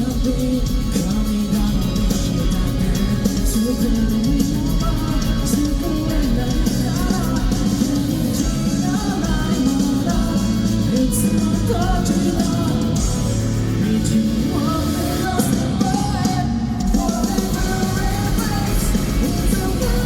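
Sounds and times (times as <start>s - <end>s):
drum kit: 0.0s - 20.0s
electric guitars: 0.0s - 20.0s
male singer: 0.0s - 20.0s.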